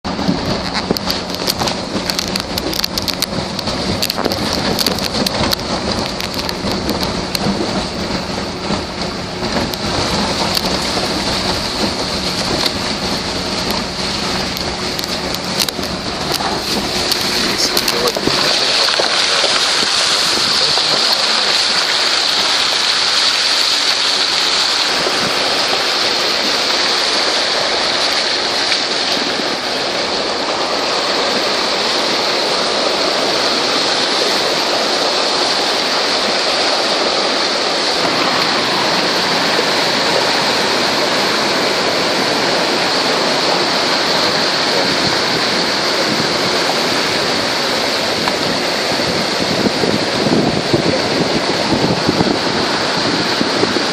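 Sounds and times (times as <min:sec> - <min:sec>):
floodwater rushing down street: 0:00.0 - 0:53.9.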